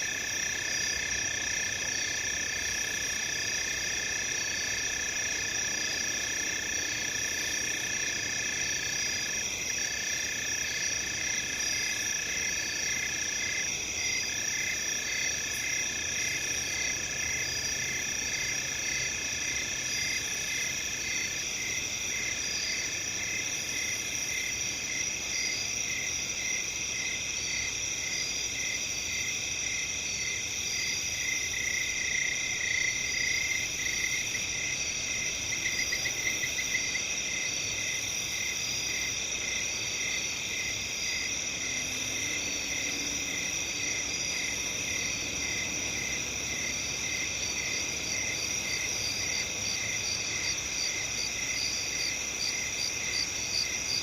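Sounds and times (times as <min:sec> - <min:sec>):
chorus of crickets chirping: 0:00.0 - 0:54.0
nearer cricket chirping and trilling: 0:00.0 - 0:54.0.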